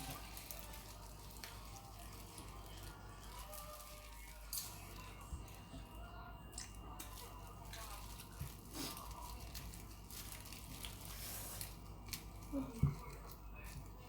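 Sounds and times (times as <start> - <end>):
food crunching and tearing: 0.0 - 5.7, 6.6 - 14.0.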